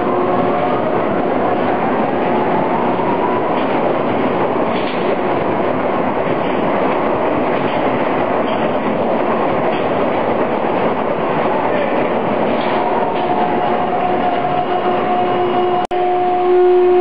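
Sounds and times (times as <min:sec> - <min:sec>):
carriage running along rails: 0:00.0 - 0:15.7.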